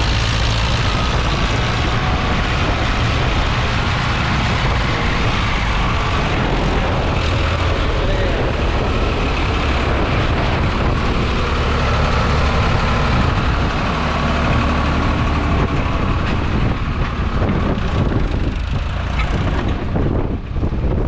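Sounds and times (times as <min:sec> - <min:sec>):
tractor diesel engine running: 0:00.0 - 0:21.0
wind buffeting microphone: 0:00.0 - 0:21.0.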